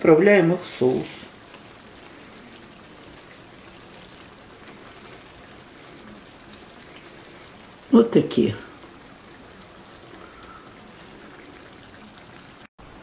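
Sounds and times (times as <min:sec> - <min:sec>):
sauce simmering with small pops: 0:00.7 - 0:12.7.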